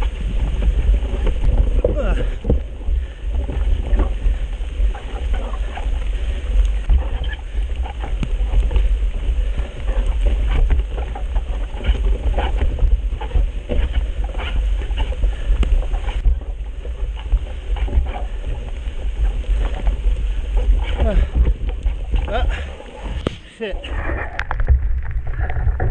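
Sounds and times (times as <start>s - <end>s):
small clicks and crackles: 0.0s - 25.9s
wind buffeting microphone: 0.0s - 25.9s.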